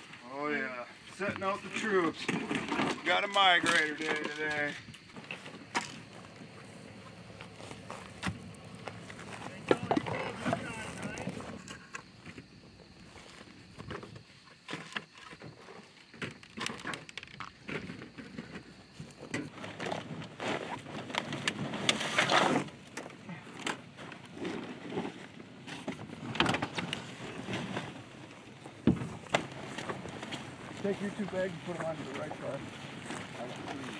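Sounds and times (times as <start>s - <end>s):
decoy bags rustling and scraping: 1.2s - 33.9s.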